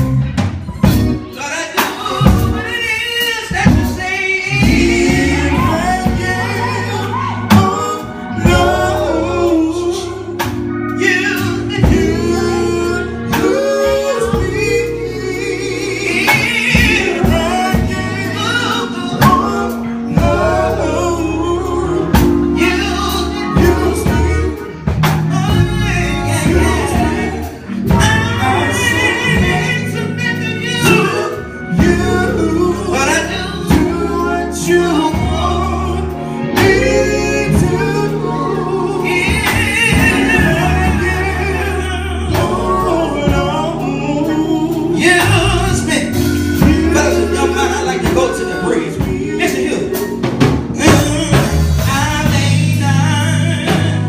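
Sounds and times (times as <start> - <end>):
gospel singing: 0.0 - 54.0
instrumental backing with bass: 0.0 - 54.0.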